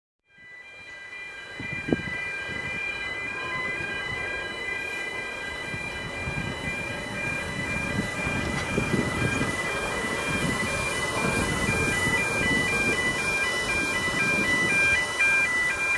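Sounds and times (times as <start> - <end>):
electronic warning alarm: 0.3 - 15.9.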